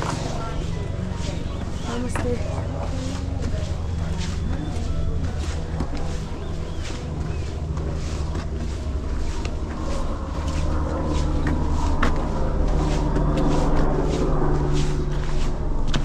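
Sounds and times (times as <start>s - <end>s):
footsteps crunching on stony trail: 0.0s - 16.0s
steady low drone: 0.0s - 16.0s.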